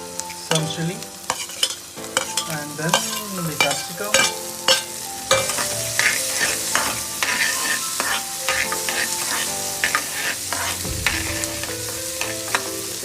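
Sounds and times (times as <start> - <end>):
vegetables sizzling in butter: 0.0 - 13.0
spatula scraping pan: 0.6 - 13.0.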